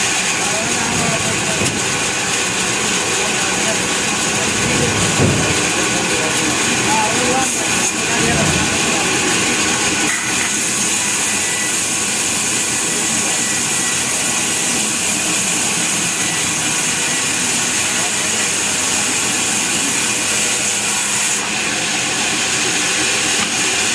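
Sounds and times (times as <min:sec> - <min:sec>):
saw blade whining through log: 0:00.0 - 0:23.9.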